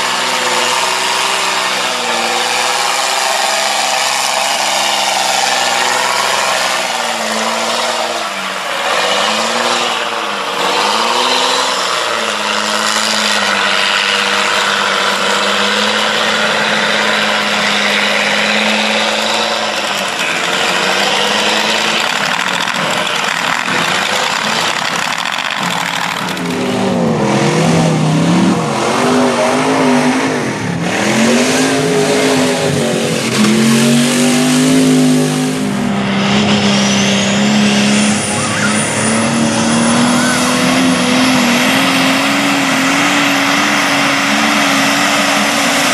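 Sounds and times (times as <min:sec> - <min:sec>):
truck engine revving: 0:00.0 - 0:45.9.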